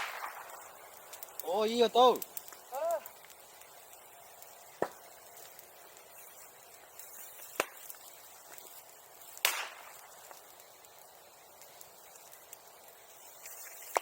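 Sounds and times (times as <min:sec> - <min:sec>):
bonfire popping: 0:00.0 - 0:14.0.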